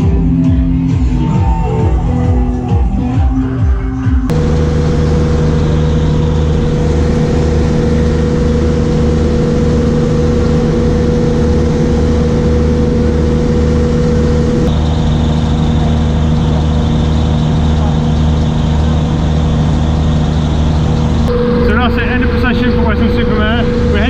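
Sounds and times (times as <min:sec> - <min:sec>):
large engine droning: 0:00.0 - 0:24.0
high whine: 0:04.1 - 0:24.0.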